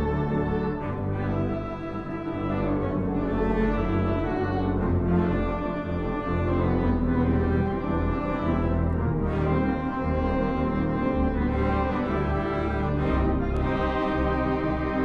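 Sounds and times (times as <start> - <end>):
theatre pipe organ chords: 0.0 - 15.0.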